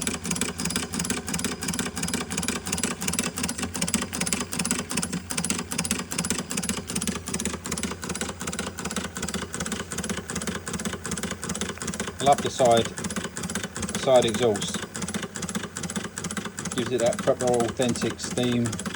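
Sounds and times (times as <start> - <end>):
toy steam engine puffing: 0.0 - 18.9.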